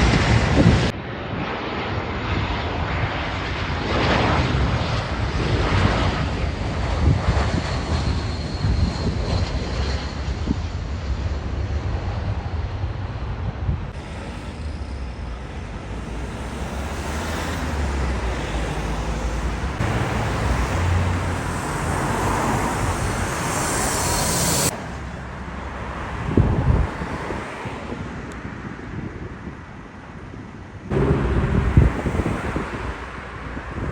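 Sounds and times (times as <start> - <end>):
jet airliner engine rumble: 0.0 - 33.9
wind rumble on microphone: 0.0 - 33.9.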